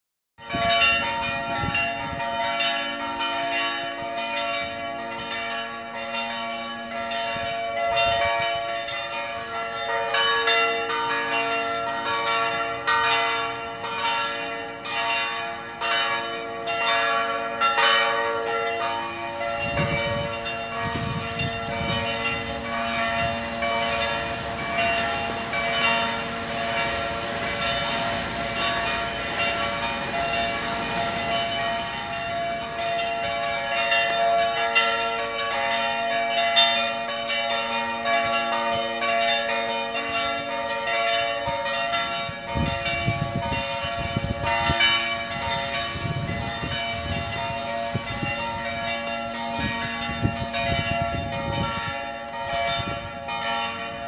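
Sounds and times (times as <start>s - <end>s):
church bells pealing: 0.4s - 54.0s.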